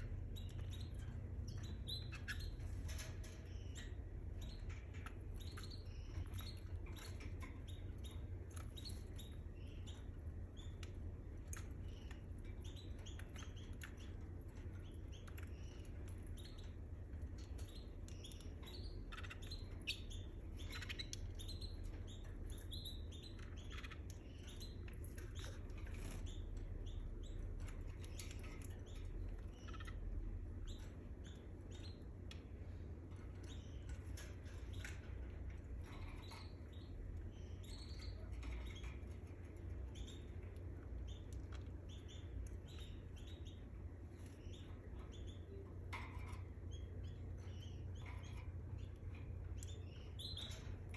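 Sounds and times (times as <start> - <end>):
canary chirping and trilling: 0.0 - 50.9
steady low hum: 0.0 - 50.9.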